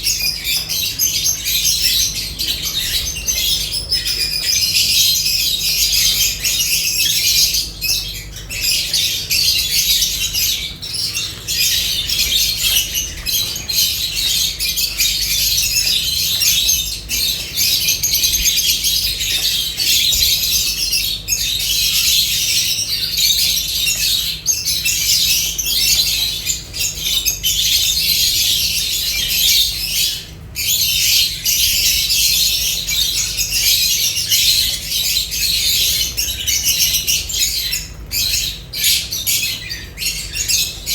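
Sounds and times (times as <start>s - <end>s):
lovebirds chattering and squawking: 0.0s - 40.9s.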